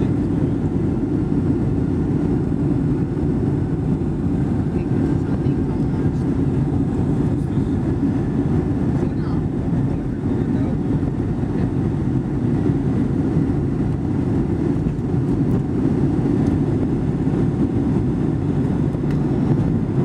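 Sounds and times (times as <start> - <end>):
jet engines rumbling inside cabin: 0.0 - 20.0.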